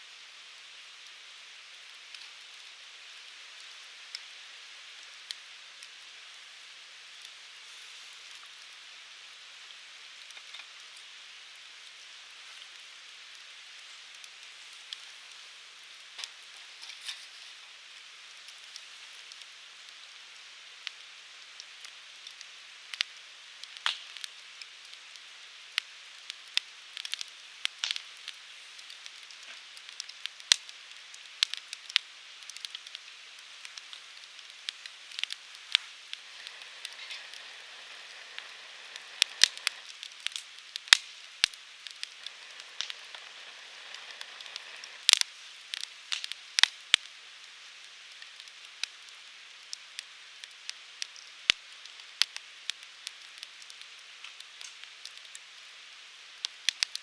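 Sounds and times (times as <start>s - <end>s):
firewood crackling and popping: 0.5s - 57.0s.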